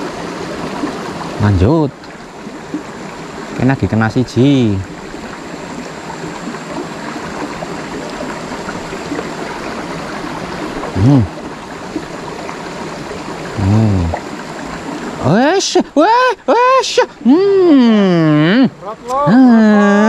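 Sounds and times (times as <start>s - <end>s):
stream running over stones: 0.0s - 20.0s.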